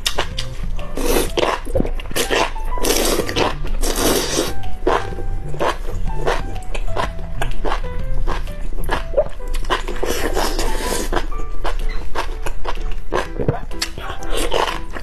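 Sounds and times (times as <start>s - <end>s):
background music: 0.0s - 15.0s
slurping and chewing: 0.0s - 15.0s.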